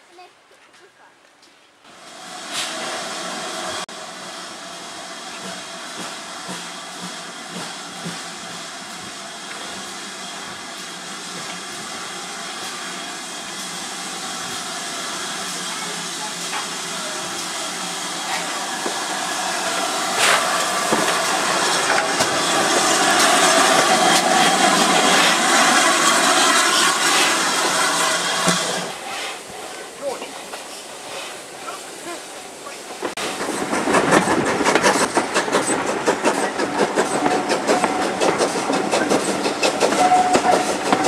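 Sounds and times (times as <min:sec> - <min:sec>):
steam hissing: 0:01.9 - 0:41.0
steam locomotive approaching: 0:01.9 - 0:41.0.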